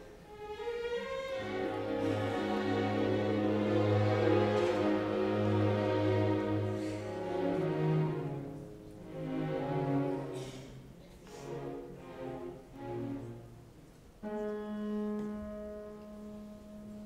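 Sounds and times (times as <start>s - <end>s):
orchestra bowed strings: 0.0s - 17.0s.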